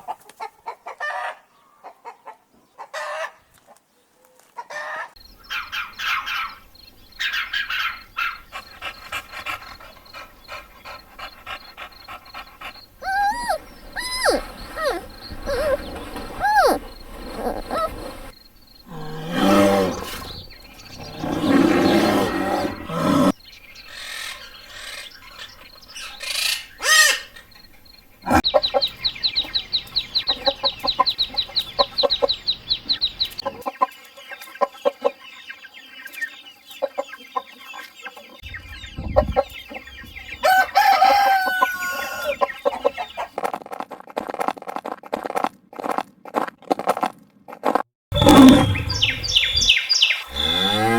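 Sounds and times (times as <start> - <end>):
chickens clucking: 4.6 - 22.8, 23.7 - 44.4, 48.2 - 50.9
bird calls: 5.2 - 43.4, 48.1 - 50.9.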